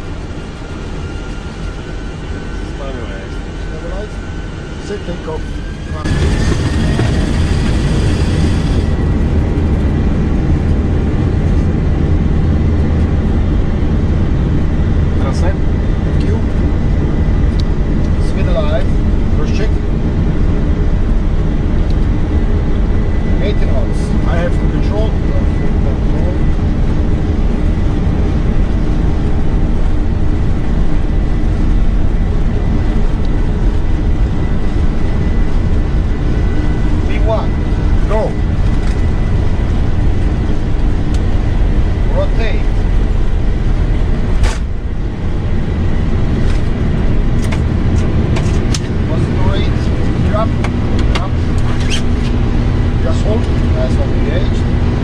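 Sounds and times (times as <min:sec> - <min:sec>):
jet engines roaring at takeoff: 0:00.0 - 0:55.0
thin steady whine: 0:00.0 - 0:55.0.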